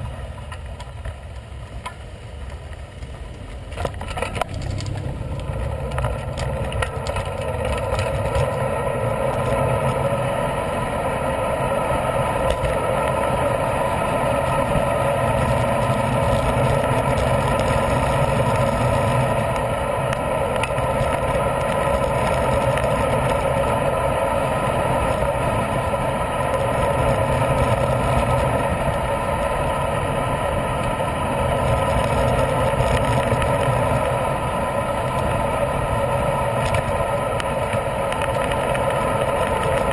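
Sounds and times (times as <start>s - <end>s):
bicycle tyre road noise: 0.0s - 39.9s.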